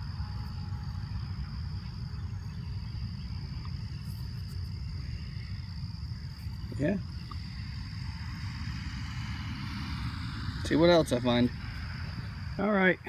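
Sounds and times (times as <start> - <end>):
continuous low rumble: 0.0 - 13.0
high-pitched insect chorus: 0.0 - 13.0.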